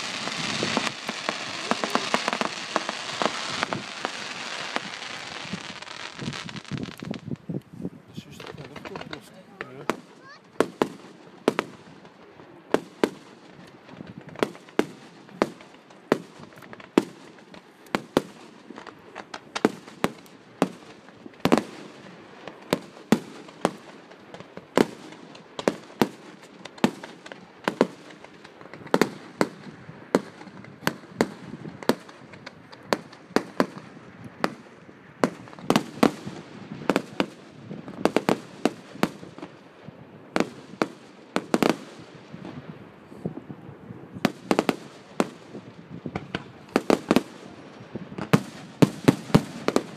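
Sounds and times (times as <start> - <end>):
fireworks bangs: 0.0 - 7.5, 8.1 - 49.9.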